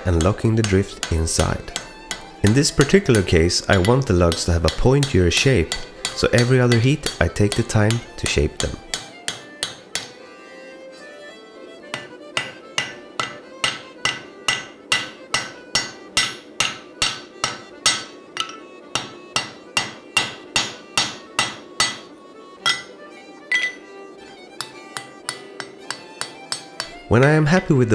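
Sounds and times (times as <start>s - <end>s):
hammer striking steel on anvil: 0.0s - 10.2s, 11.9s - 23.9s, 24.6s - 27.6s.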